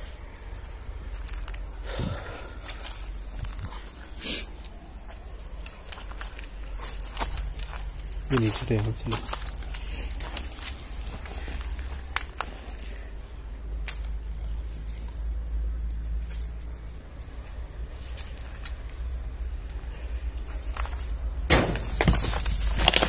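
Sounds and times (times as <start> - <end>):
cricket chirping: 0.0 - 23.0.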